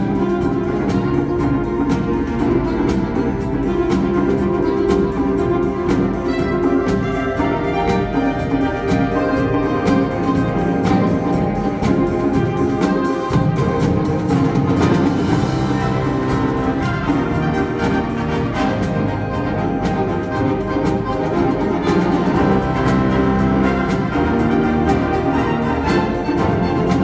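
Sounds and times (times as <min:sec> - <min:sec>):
wind band playing: 0:00.0 - 0:27.0.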